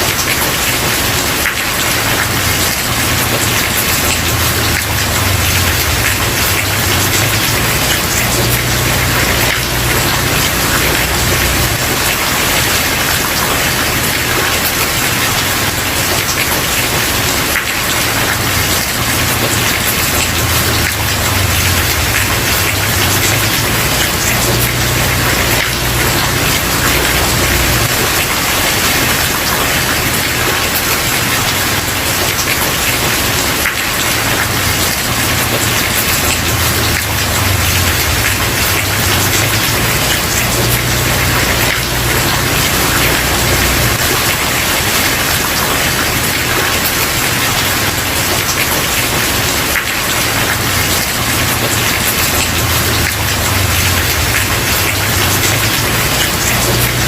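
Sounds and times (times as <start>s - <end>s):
heavy rain on wooden porch: 0.0s - 57.0s.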